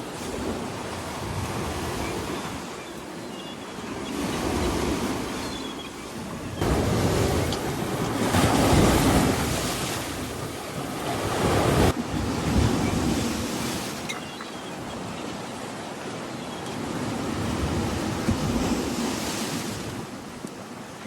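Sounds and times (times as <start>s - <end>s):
sea waves on shore: 0.0s - 21.0s.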